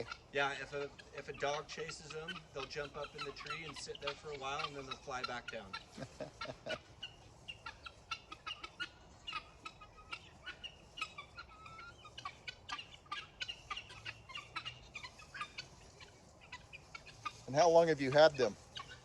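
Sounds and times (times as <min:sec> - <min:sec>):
guinea fowl calling: 0:00.0 - 0:19.0.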